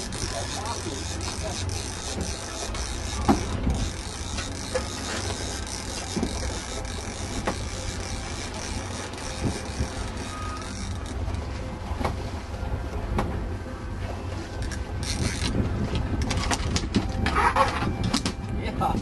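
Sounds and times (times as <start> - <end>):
boat rumble and water rushing: 0.0 - 19.0.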